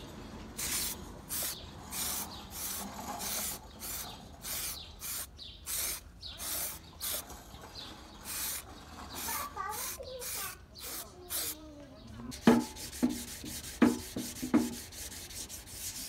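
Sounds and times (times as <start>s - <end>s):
hand sanding strokes: 0.6s - 7.2s, 8.2s - 8.6s, 9.2s - 11.6s, 12.3s - 16.0s.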